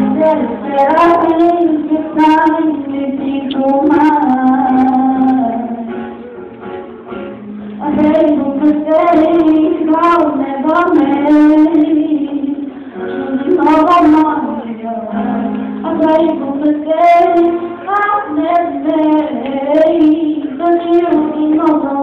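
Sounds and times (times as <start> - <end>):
woman singing slow melody: 0.0 - 6.0, 7.8 - 22.0
acoustic guitar: 0.0 - 22.0.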